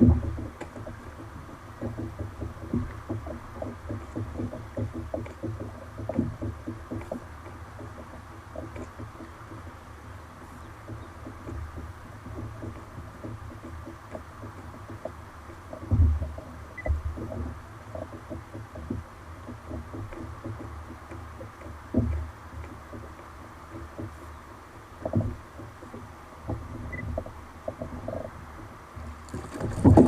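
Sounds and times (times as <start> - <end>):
low thumps on a kayak: 0.0 - 30.0.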